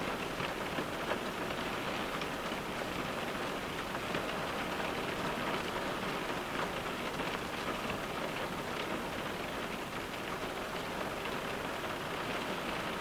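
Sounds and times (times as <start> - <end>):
rain on car windows: 0.0 - 13.0.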